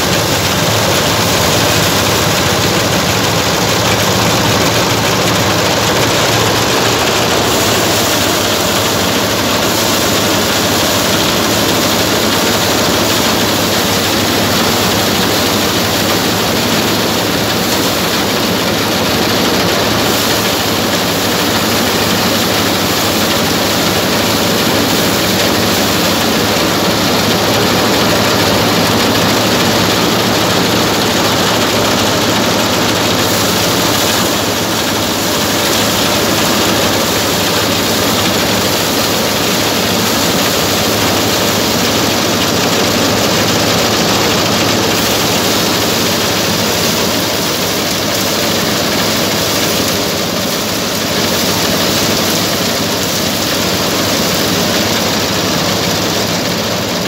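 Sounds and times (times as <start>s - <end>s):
grain and straw rattling: 0.0s - 57.0s.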